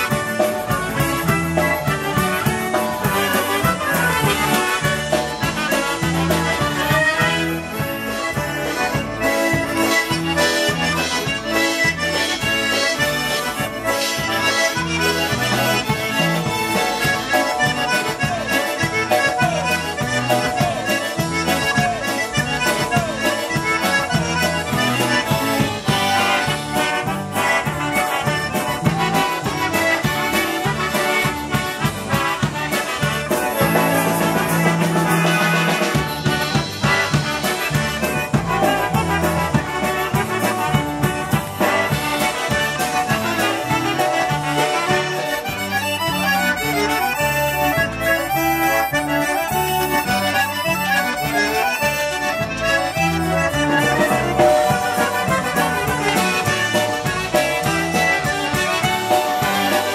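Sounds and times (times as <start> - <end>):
accordion: 0.0 - 59.9
oom-pah bass beat: 0.0 - 59.9
polka band playing: 0.0 - 59.9
trumpets: 0.0 - 59.9.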